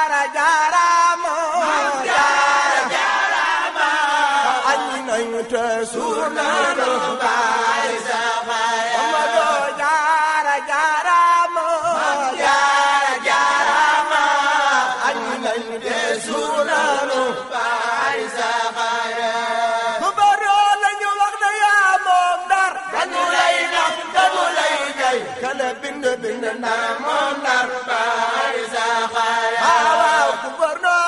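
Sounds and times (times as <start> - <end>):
group chanting in unison: 1.4 - 20.2, 22.4 - 31.0.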